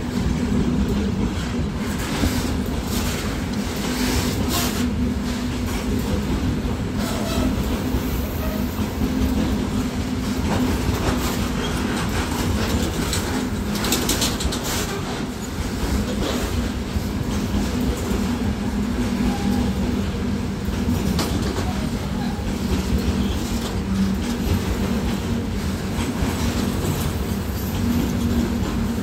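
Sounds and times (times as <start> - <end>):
train wheels rumbling on rails: 0.0 - 29.0
wheels clanking over rail joints: 0.0 - 29.0.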